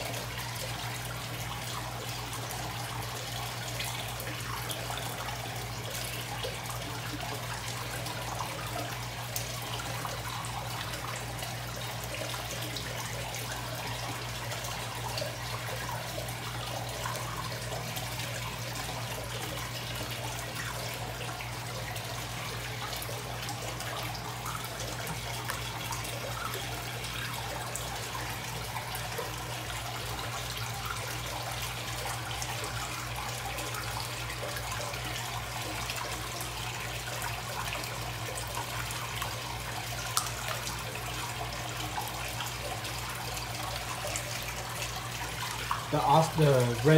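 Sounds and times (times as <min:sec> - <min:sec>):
water running and trickling: 0:00.0 - 0:46.9.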